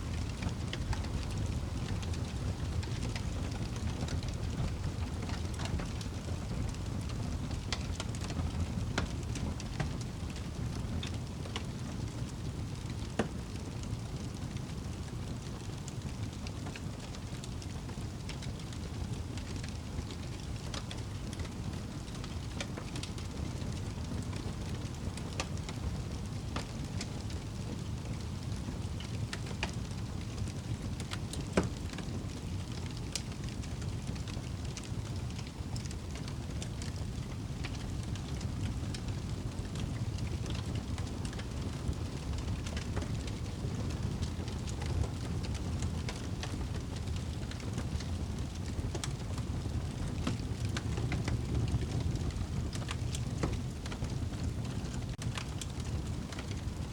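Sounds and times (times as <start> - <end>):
wood fire burning with crackles: 0.0 - 56.9.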